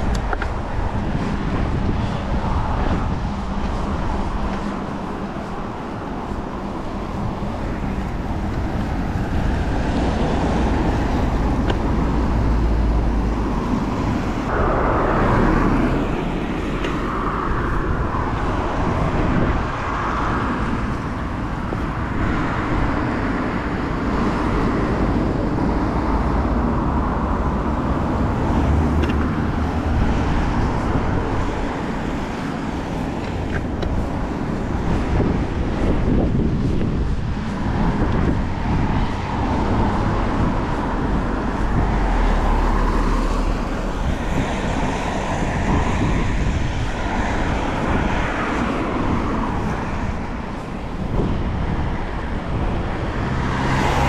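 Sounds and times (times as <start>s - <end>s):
bicycle tyre roar: 0.0s - 54.0s
wind rushing past camera: 0.0s - 54.0s.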